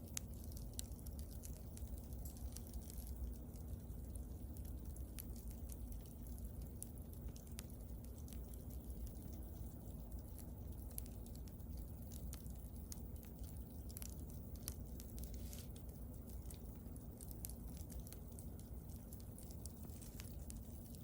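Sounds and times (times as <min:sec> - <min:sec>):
bonfire flames rumbling: 0:00.0 - 0:21.0
fire crackling and popping: 0:00.0 - 0:21.0.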